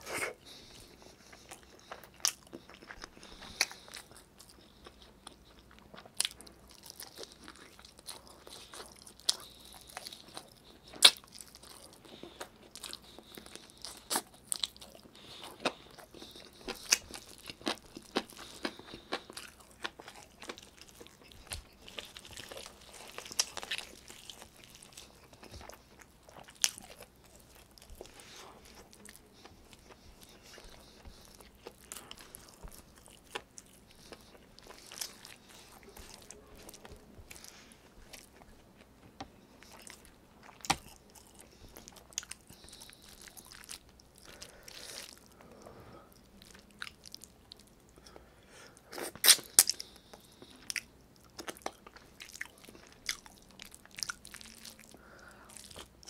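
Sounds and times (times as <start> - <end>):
man biting and chewing meat: 0.0 - 38.5, 39.6 - 45.4, 48.8 - 56.0.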